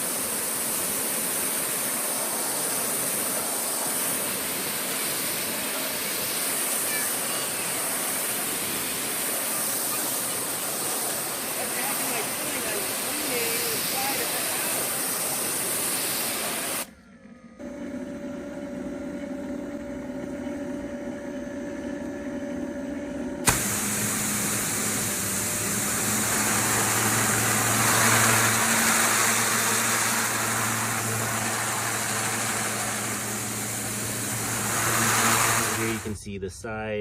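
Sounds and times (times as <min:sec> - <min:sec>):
pressure washer spray hissing: 0:00.0 - 0:16.9, 0:23.4 - 0:36.2
pump motor humming: 0:00.0 - 0:17.0, 0:17.6 - 0:36.2.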